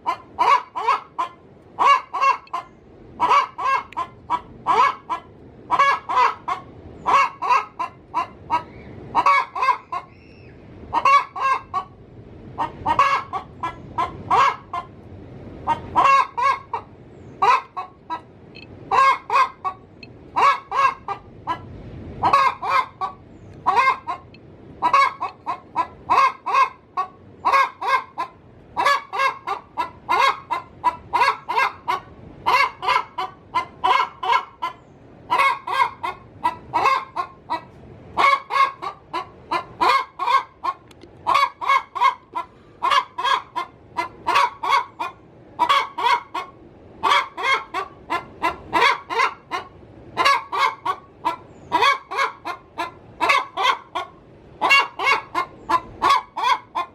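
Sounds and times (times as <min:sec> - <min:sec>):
hen cackling: 0:00.0 - 0:15.0, 0:15.6 - 0:56.9.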